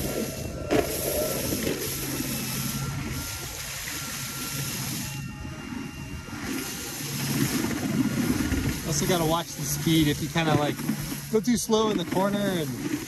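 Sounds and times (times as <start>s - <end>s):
hissing water spray: 0.0s - 5.2s, 6.3s - 13.0s
faint propeller whine: 0.0s - 13.0s
wind on microphone: 0.0s - 13.0s.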